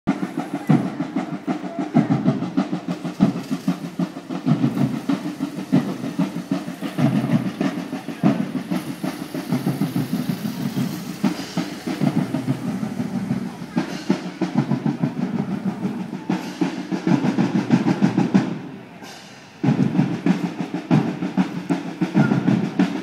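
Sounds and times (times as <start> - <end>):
parade drums beating: 0.1 - 23.0.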